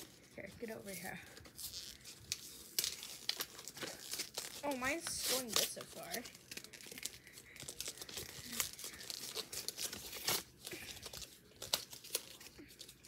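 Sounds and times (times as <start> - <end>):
packaging tearing and crackling: 1.4 - 13.0.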